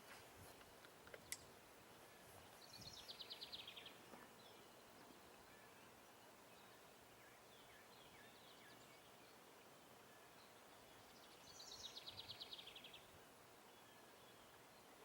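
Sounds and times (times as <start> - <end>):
outdoor background hiss: 0.0 - 15.0
faint bird chirps: 2.5 - 15.0.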